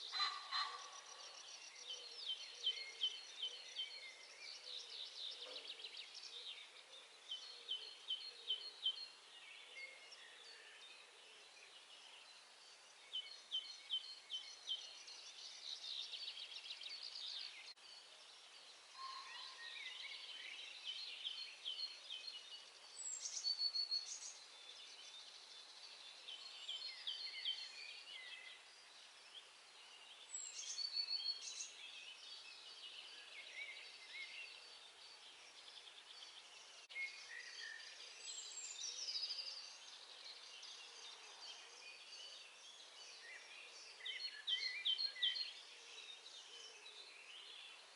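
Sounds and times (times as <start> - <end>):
faint steady hiss: 0.0 - 47.9
songbirds singing: 0.0 - 47.9.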